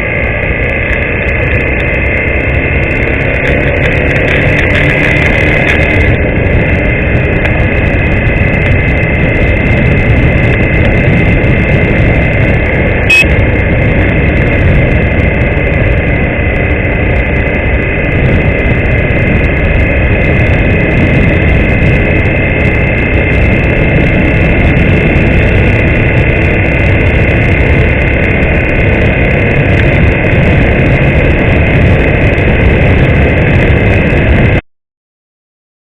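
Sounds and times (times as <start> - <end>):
motorcycle engine running: 0.0 - 34.6.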